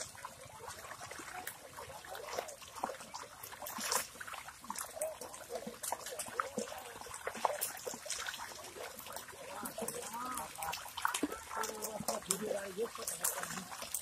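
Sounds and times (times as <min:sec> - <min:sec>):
mud squelching and water splashing: 0:00.0 - 0:14.0.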